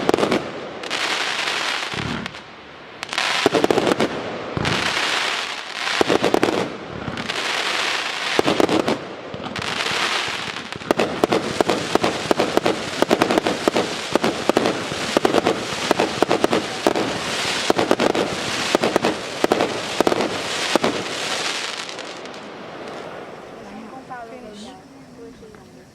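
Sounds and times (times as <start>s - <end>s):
firework launch shots and bursts: 0.0s - 23.4s.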